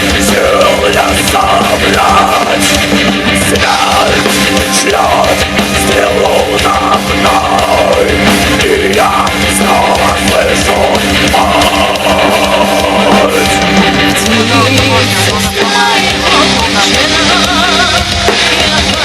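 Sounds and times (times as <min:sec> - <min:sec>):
distorted electric guitars: 0:00.0 - 0:19.0
drum kit: 0:00.0 - 0:19.0.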